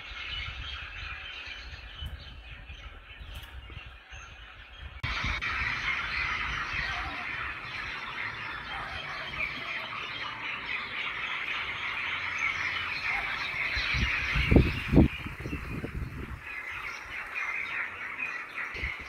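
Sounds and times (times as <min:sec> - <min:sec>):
small birds chattering: 0:00.0 - 0:19.0.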